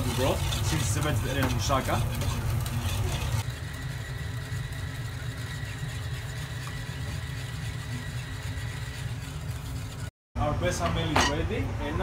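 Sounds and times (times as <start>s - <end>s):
kitchen equipment rumble: 0.0s - 10.1s.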